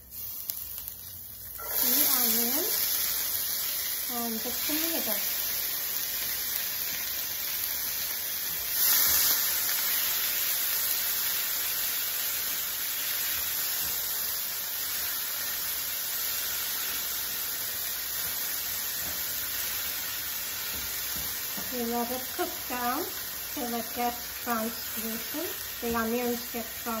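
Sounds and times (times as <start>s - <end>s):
onion sizzling in hot oil: 0.0s - 27.0s.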